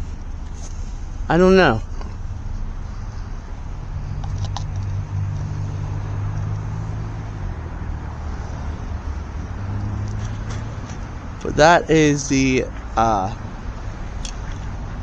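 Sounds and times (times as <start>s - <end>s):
engine humming: 0.0s - 15.0s
outdoor background noise: 0.0s - 15.0s.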